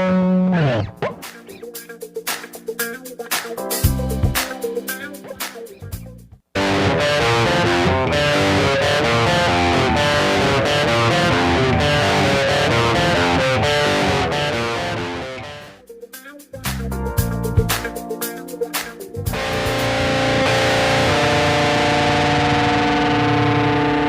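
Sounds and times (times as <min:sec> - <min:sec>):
rock music with electric guitar: 0:00.0 - 0:06.0, 0:06.6 - 0:24.0.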